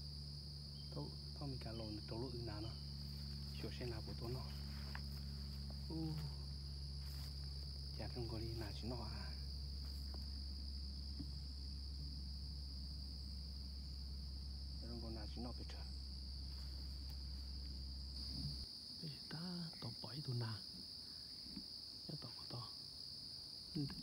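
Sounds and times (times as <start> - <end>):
crickets chirping: 0.0 - 24.0
low steady hum: 0.0 - 24.0.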